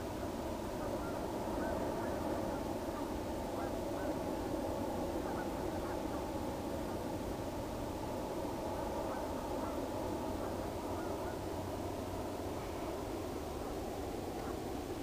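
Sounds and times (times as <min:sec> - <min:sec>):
background rumble and hiss: 0:00.0 - 0:15.0
faint bird calls: 0:00.1 - 0:15.0.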